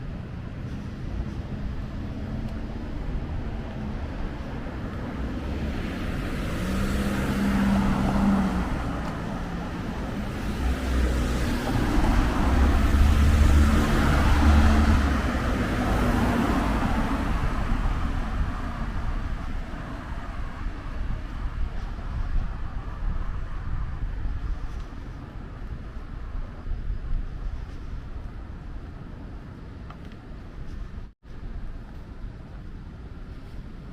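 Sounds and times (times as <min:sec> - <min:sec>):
vehicles passing by: 0:00.0 - 0:33.9.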